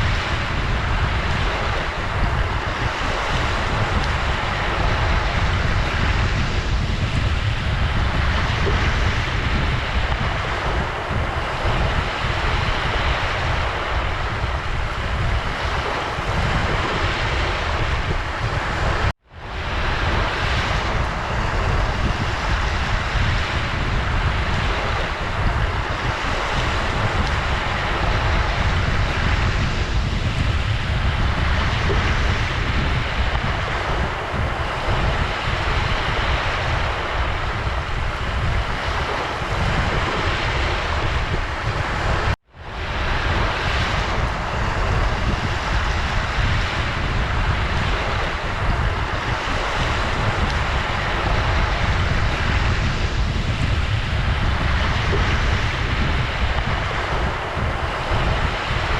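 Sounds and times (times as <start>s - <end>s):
ocean waves washing in: 0.0s - 58.9s.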